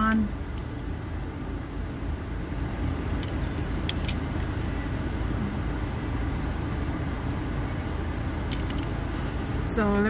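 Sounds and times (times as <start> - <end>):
air conditioning running: 0.0 - 10.0
car engine idling: 0.0 - 10.0.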